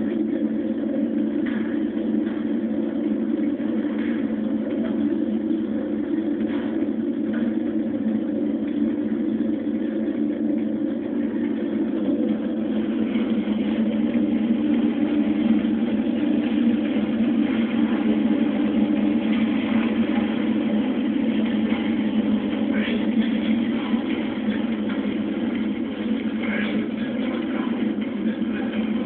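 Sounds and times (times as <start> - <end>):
low drone: 0.0 - 29.0.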